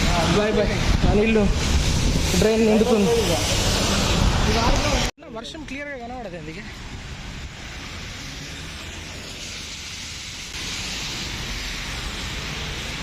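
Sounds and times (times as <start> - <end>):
heavy rain falling: 0.0 - 5.1, 6.8 - 13.0.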